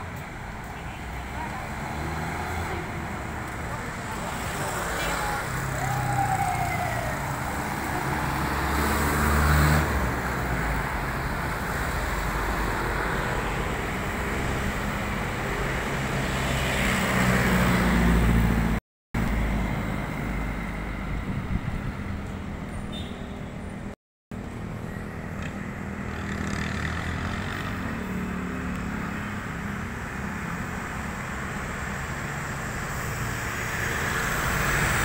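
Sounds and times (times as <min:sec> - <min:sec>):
road traffic: 0:00.0 - 0:35.0
vehicles passing: 0:00.0 - 0:35.0.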